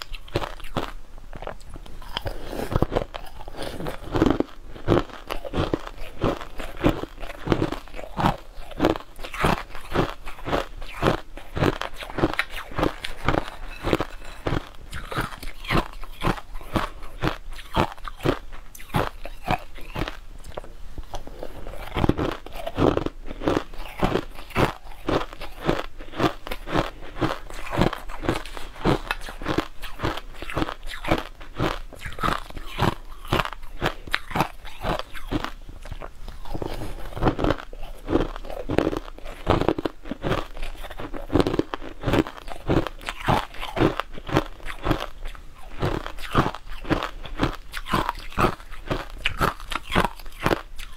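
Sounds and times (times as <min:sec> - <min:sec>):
person crunching ice: 0:00.0 - 0:20.2, 0:21.1 - 0:50.9.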